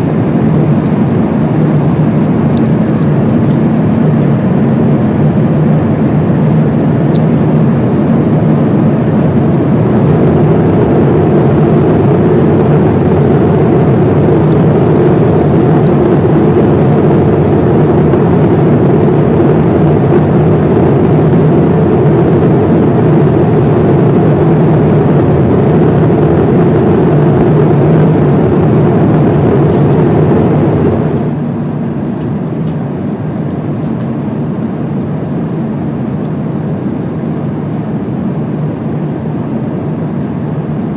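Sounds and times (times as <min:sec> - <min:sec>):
airliner cabin airflow rush: 0:00.0 - 0:40.9
low engine drone: 0:00.0 - 0:40.9.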